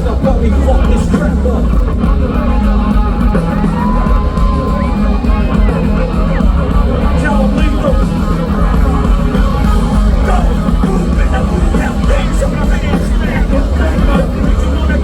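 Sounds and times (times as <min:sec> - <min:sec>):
crowd yelling: 0:00.0 - 0:15.0
live rap-rock band: 0:00.0 - 0:15.0.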